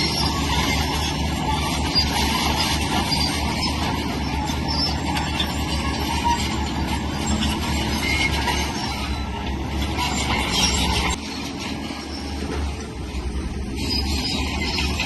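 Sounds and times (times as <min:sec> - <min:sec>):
crawler tracks clanking: 0:00.0 - 0:15.0
diesel engine rumble: 0:00.0 - 0:15.0.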